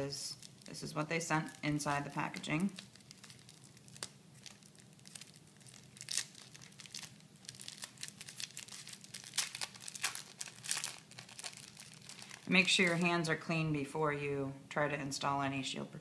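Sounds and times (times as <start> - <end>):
plastic wrapper crinkling: 0.0 - 13.4.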